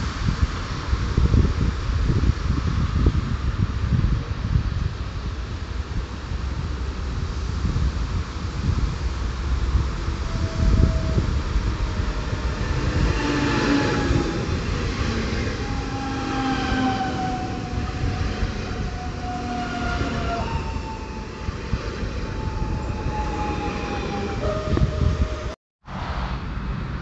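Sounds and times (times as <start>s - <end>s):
train wheels rumbling on rails: 0.0s - 25.6s.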